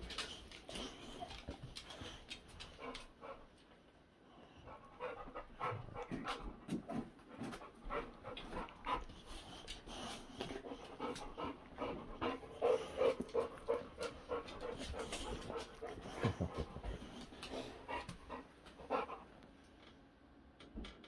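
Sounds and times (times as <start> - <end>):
dog panting: 0.0 - 3.6, 4.4 - 19.4.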